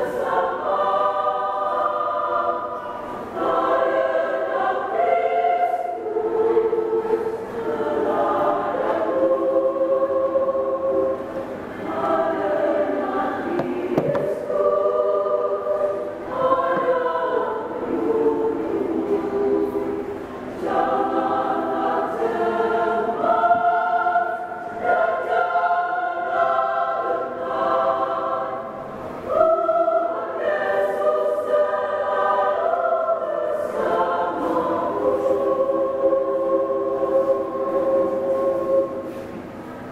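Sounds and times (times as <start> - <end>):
women's choir singing a hymn: 0.0 - 39.9.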